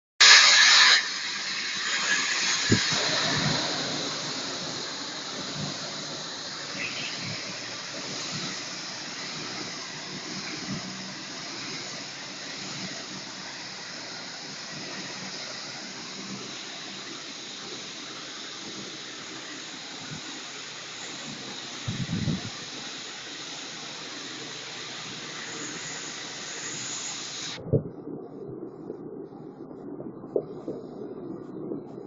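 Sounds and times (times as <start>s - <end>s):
rushing hiss of water spray: 0.2s - 27.6s.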